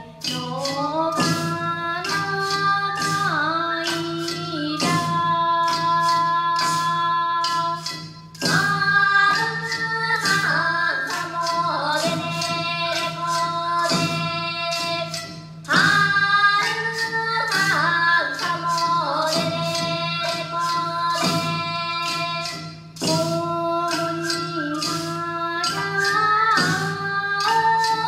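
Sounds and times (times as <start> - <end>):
clacking percussion: 0.0 - 28.0
voices singing: 0.0 - 28.0.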